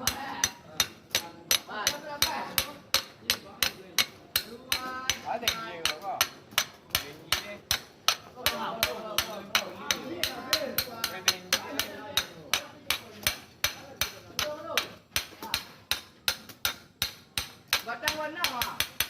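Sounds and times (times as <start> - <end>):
hammer striking metal: 0.0 - 19.0.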